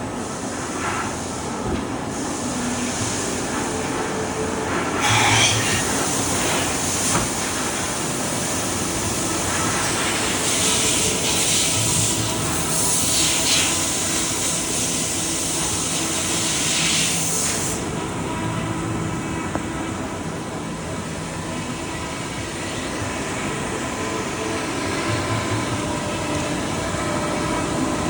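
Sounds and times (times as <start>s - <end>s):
milling machine running: 2.4s - 28.0s.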